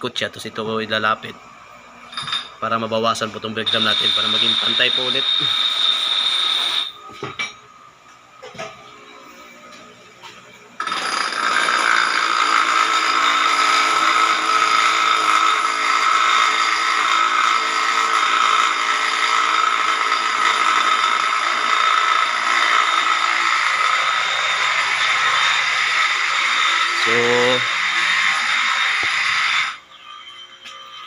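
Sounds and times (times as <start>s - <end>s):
lathe bit scraping metal drum: 2.1s - 7.1s, 10.8s - 31.0s.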